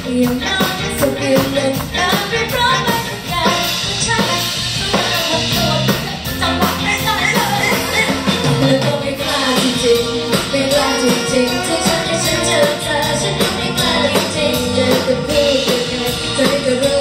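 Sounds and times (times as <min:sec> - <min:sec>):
live band music: 0:00.0 - 0:17.0
steady drum beat: 0:00.0 - 0:17.0
women singing: 0:00.0 - 0:17.0.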